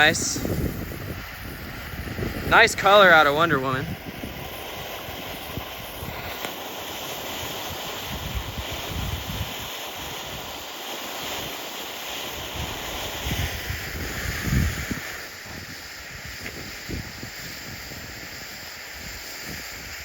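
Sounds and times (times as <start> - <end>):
wind buffeting microphone: 0.0 - 10.6, 12.3 - 20.0
fireworks spraying hiss: 0.0 - 20.0.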